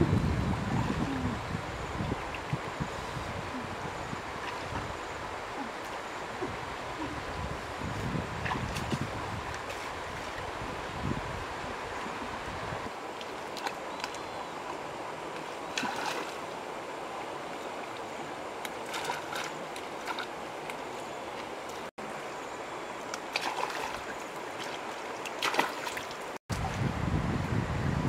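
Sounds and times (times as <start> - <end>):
shallow stream water rushing: 0.0 - 26.9.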